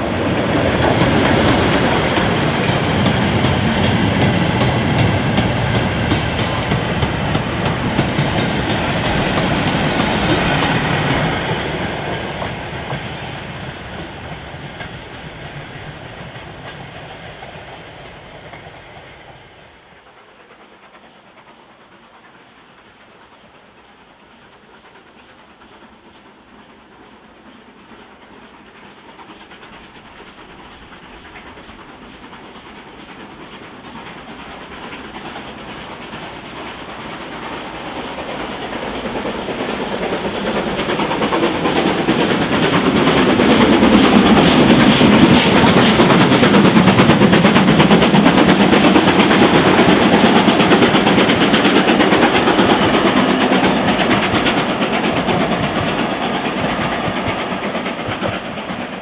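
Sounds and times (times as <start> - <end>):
steam locomotive passing: 0.0 - 59.0.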